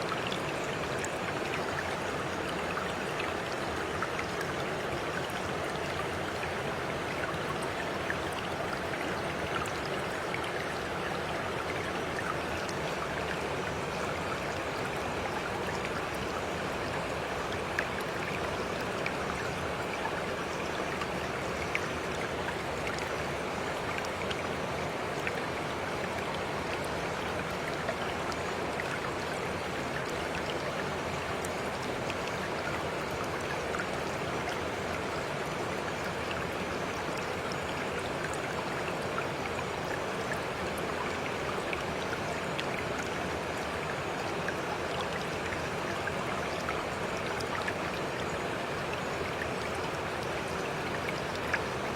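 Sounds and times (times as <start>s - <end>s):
stream water babbling: 0.0s - 51.9s.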